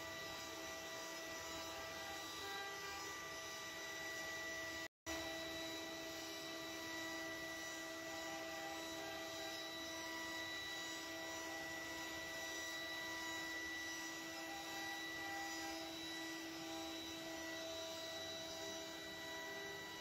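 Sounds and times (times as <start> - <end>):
router bit cutting wood: 0.0 - 20.0
router spindle whining: 0.0 - 20.0.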